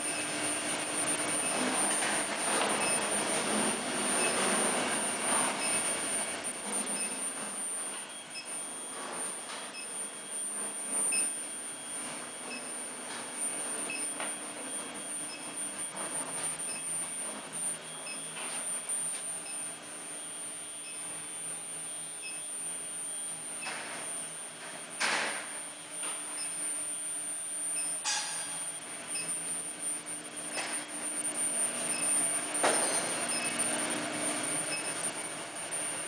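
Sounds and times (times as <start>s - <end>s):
cooling fans hissing: 0.0s - 36.0s
high-pitched electrical whine: 0.0s - 36.0s.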